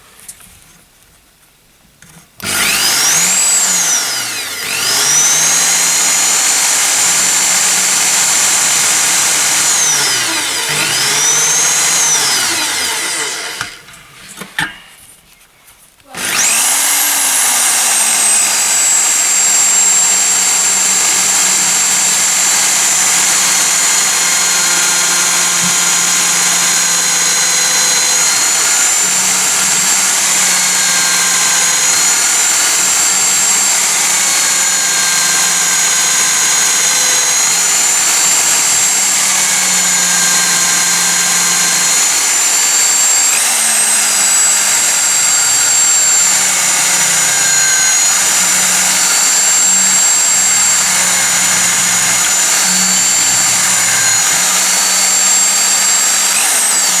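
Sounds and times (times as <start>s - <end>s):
small electric drill whining: 2.1s - 14.7s, 16.1s - 57.0s.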